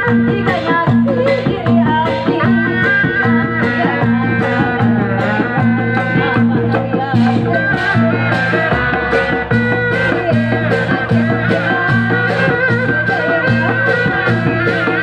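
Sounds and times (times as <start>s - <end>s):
amplified traditional music: 0.0s - 15.0s
steady drumming: 0.0s - 15.0s
heavy bass line: 1.0s - 15.0s.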